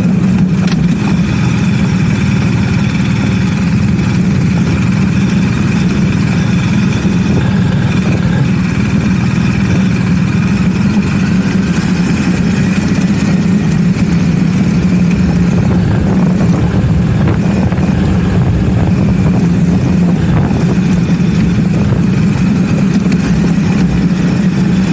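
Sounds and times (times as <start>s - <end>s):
motorcycle engine running steadily: 0.0s - 24.9s.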